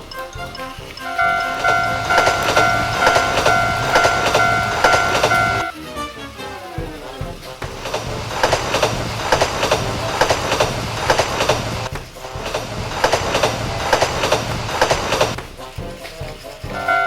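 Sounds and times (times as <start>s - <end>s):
toy train motor hum: 0.0s - 5.7s, 6.8s - 17.0s
wheels clicking over track joints: 0.0s - 17.0s.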